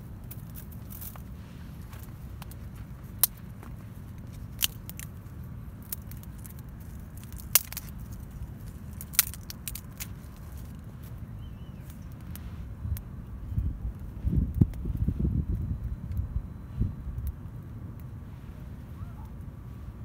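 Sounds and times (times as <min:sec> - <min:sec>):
campfire crackling and popping: 0:00.0 - 0:19.6.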